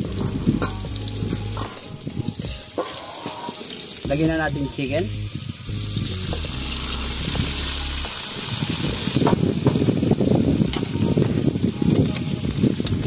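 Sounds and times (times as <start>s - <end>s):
chicken sizzling in a wok: 0.0s - 13.0s.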